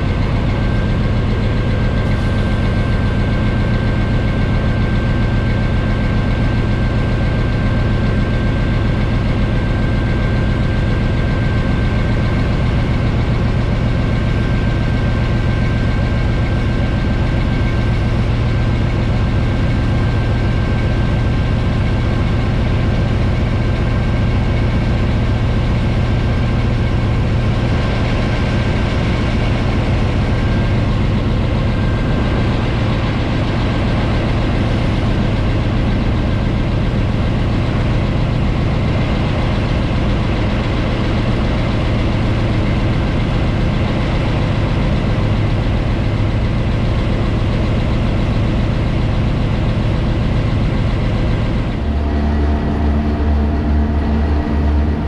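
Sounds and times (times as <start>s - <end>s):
high whine: 0.0s - 55.0s
locomotive engine rumbling: 0.0s - 55.0s.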